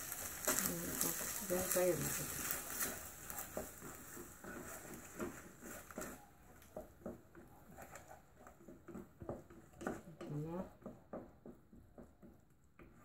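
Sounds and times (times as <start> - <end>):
utensil scraping frying pan: 0.0 - 12.2.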